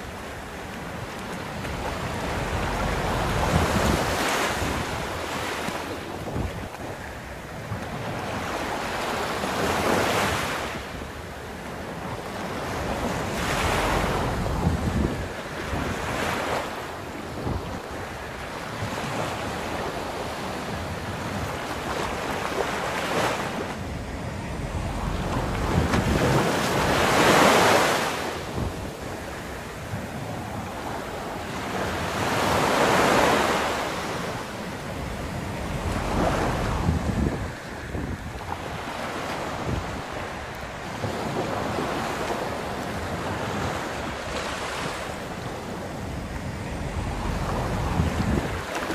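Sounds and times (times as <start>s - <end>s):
sea surf breaking on beach: 0.0s - 48.9s
wind rumble on microphone: 0.0s - 48.9s.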